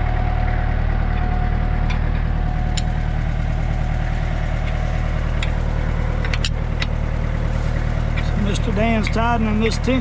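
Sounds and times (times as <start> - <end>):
diesel tractor engine idling: 0.0 - 10.0.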